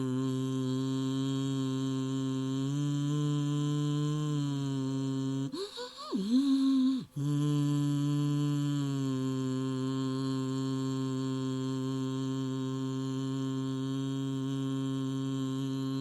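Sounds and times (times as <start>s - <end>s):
person humming a low note: 0.0s - 16.0s.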